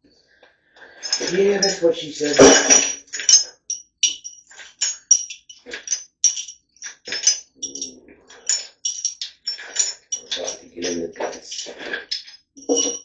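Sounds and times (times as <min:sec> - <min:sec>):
metal engine parts clinking: 0:01.0 - 0:13.0.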